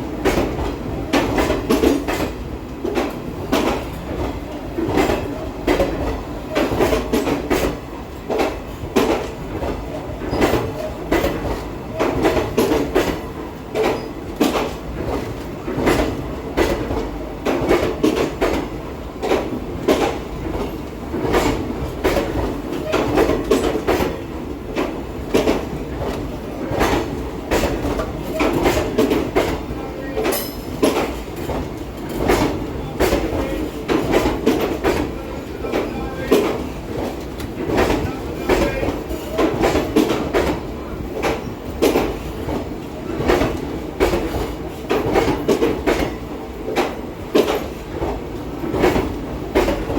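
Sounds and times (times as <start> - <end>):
train rumble: 0.0 - 49.9
train wheels clacking over rail joints: 0.0 - 49.9.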